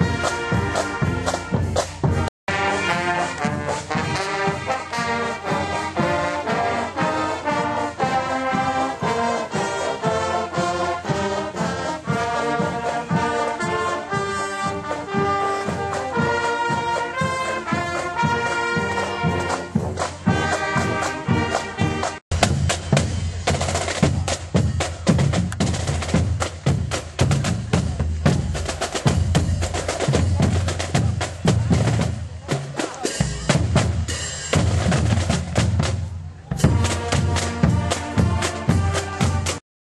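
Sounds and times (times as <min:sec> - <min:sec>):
drumline snare cadence: 0:00.0 - 0:09.6, 0:14.6 - 0:39.6
brass band playing a march: 0:00.0 - 0:39.6.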